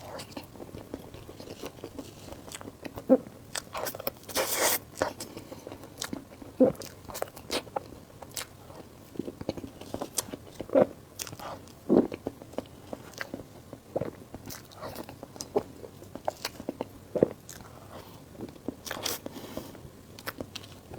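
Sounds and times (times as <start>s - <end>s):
person chewing food: 0.0s - 20.9s.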